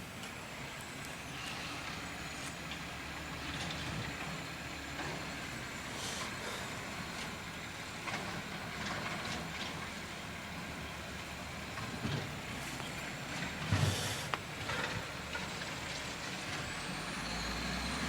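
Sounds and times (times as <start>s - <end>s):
garbage truck rumbling: 0.0s - 18.0s.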